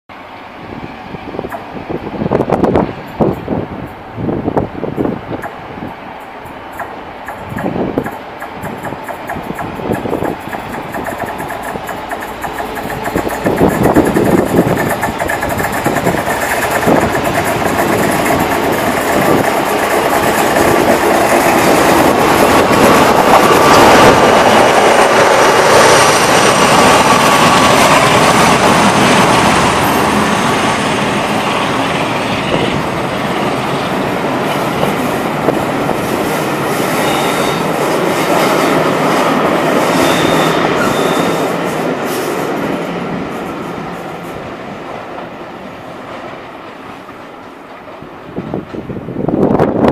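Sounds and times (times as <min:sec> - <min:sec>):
diesel locomotives passing: 0:00.1 - 0:49.9
train coaches rolling on rails: 0:00.1 - 0:49.9.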